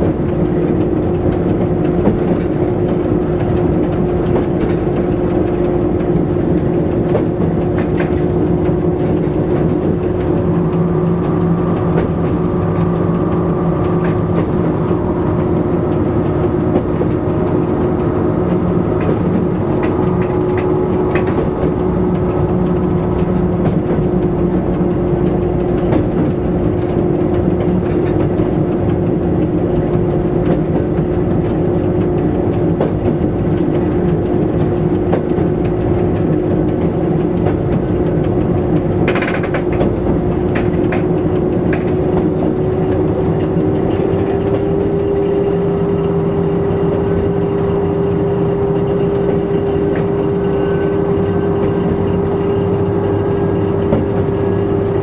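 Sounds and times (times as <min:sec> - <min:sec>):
train steady drone: 0:00.0 - 0:55.0
wheels clicking over rail joints: 0:00.0 - 0:55.0.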